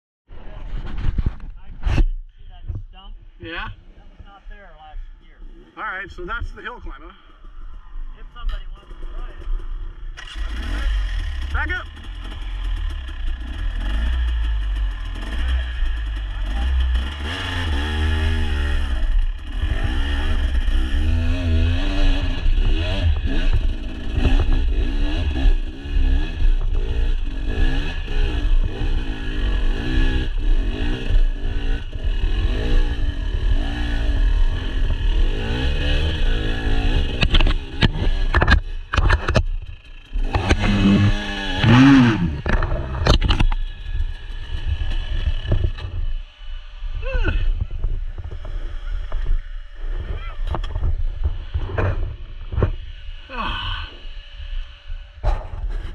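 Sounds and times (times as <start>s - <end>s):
dirt bike engine revving: 8.8s - 55.9s.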